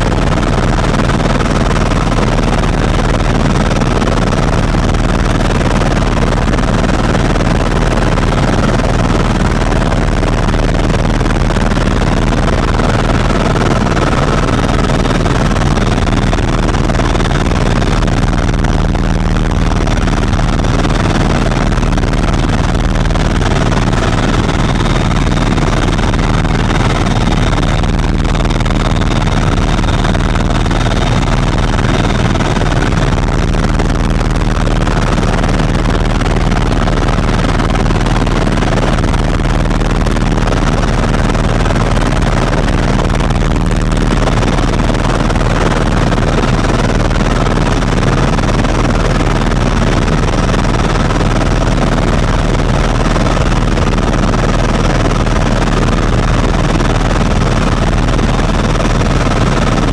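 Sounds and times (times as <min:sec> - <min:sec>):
helicopter cabin drone: 0:00.0 - 0:59.9.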